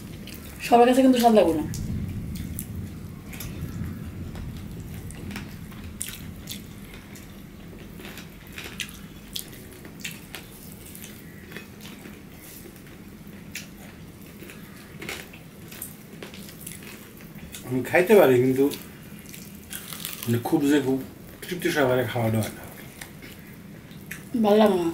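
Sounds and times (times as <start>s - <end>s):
people chewing food: 0.0s - 24.9s.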